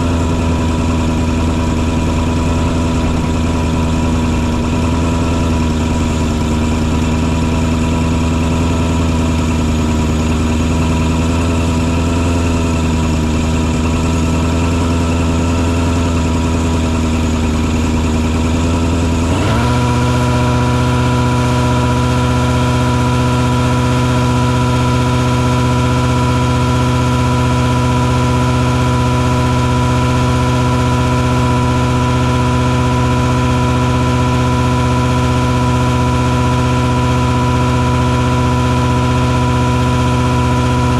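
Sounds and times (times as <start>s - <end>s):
truck engine and sprayer running: 0.0s - 40.9s.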